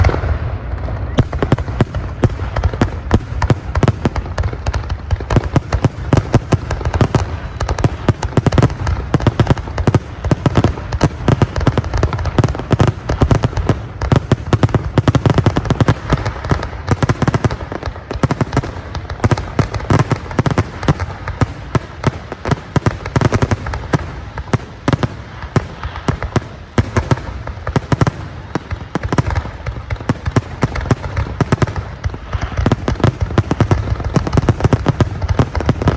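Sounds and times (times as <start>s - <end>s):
deep firework booms: 0.0s - 35.9s
firework bangs and crackles: 0.0s - 35.9s.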